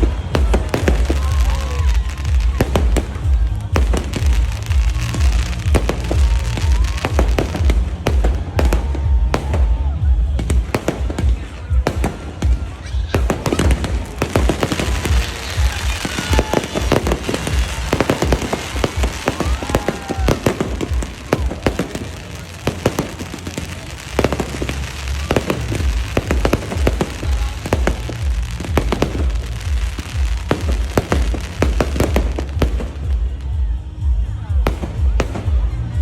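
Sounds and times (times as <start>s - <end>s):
deep fireworks booming: 0.0s - 36.0s
fireworks bangs and crackles: 0.0s - 36.0s.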